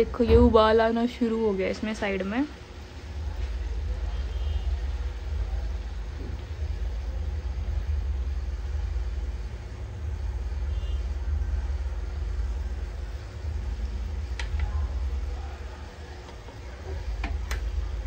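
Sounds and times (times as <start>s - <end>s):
gas stove burner rumbling and hissing: 0.0s - 18.0s.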